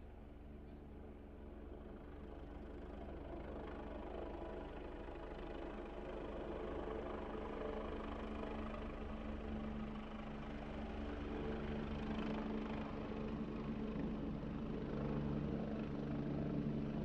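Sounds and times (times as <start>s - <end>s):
helicopter engine drone: 0.2s - 17.0s.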